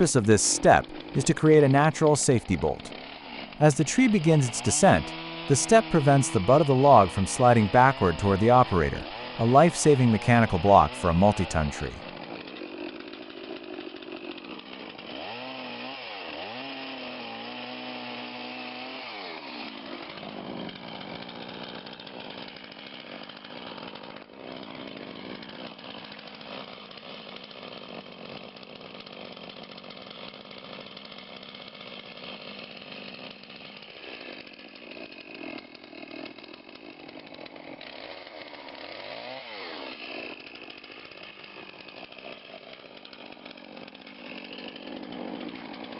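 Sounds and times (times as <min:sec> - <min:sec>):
chainsaw cutting through trunk: 0:00.0 - 0:45.9.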